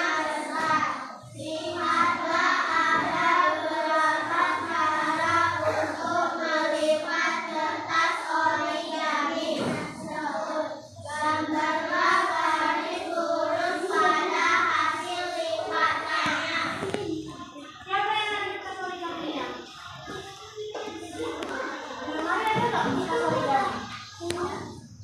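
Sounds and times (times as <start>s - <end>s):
children's voices in unison: 0.0s - 25.0s.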